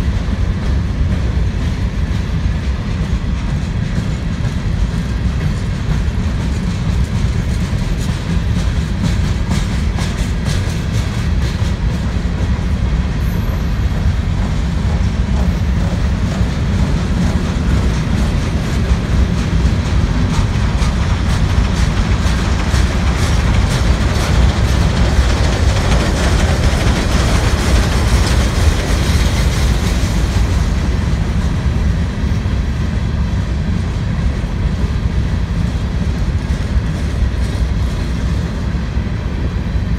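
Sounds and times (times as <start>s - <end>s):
wheels clacking over rail joints: 0.0s - 38.8s
freight train rolling past: 0.0s - 39.9s.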